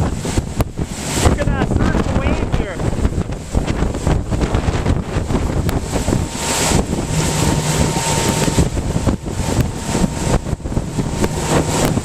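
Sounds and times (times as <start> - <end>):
boat engine running: 0.0 - 12.0
hull through rough water: 0.0 - 12.0
wind buffeting microphone: 0.0 - 12.0.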